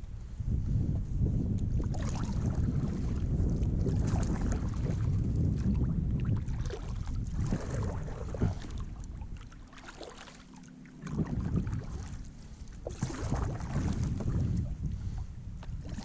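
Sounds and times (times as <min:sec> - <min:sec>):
water splashing around kayak: 0:00.0 - 0:16.0
wind rumbling on microphone: 0:00.0 - 0:16.0.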